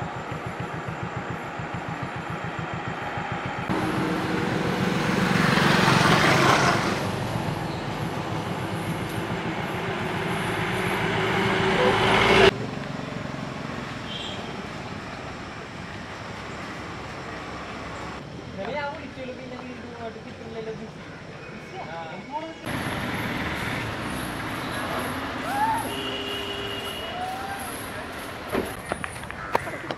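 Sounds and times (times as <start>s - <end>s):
lorry and bus engines: 0.0s - 29.9s
traffic noise: 0.0s - 29.9s.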